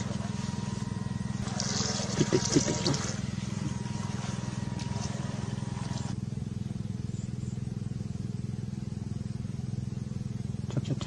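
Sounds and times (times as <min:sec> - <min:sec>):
model speedboat motor humming: 0:00.0 - 0:11.0.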